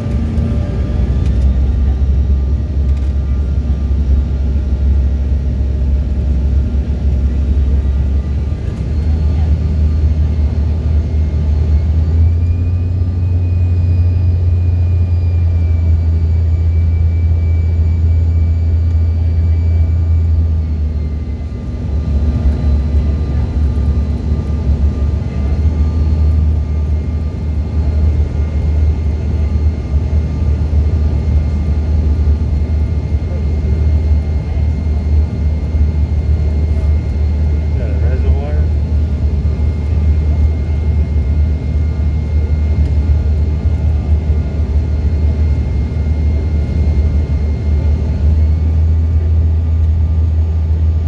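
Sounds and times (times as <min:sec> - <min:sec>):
high engine whine: 0:00.0 - 0:51.0
jet airliner cabin drone: 0:00.0 - 0:51.0.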